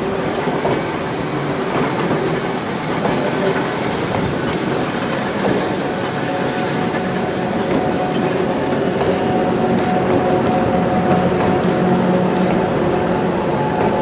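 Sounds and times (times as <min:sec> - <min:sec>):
electric locomotive humming: 0:00.0 - 0:14.0
train wheel running noise: 0:00.0 - 0:14.0.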